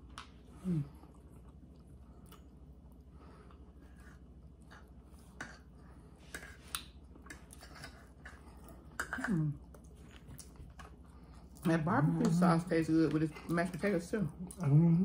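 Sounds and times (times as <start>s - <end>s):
chewing and mouth noises: 0.0s - 12.4s.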